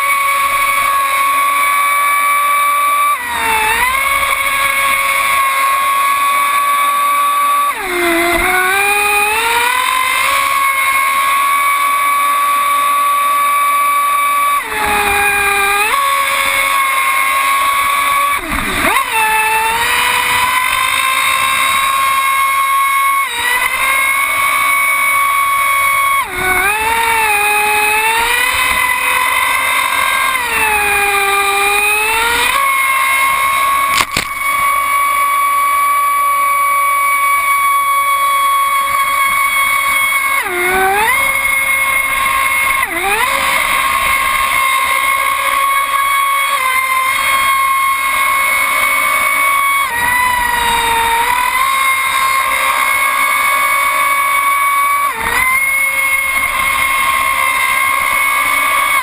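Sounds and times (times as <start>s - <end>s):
high-pitched electric motor whine: 0.0s - 59.0s.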